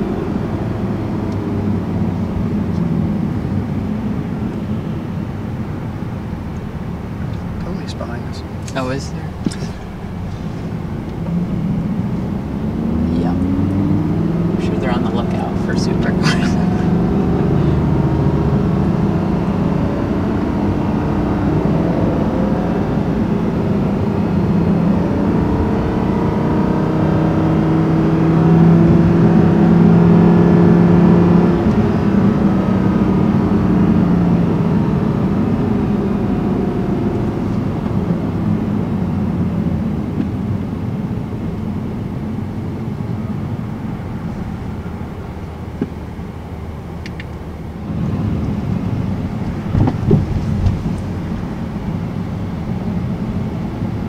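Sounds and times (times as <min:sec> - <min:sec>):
car engine from inside cabin: 0:00.0 - 0:54.0
road noise: 0:00.0 - 0:54.0.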